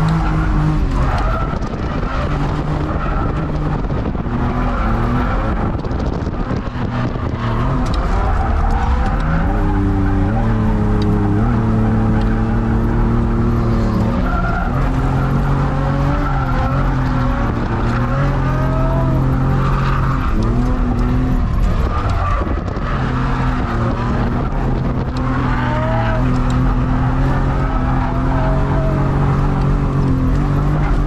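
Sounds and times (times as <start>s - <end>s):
car engine revving hard: 0.0s - 31.0s.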